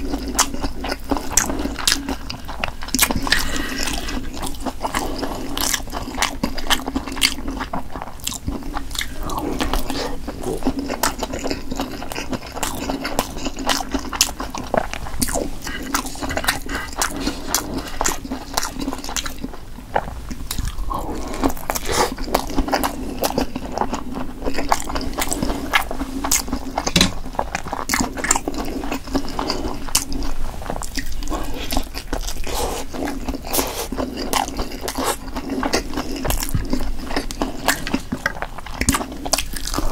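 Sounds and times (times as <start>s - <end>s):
chewing and biting food: 0.0s - 39.9s.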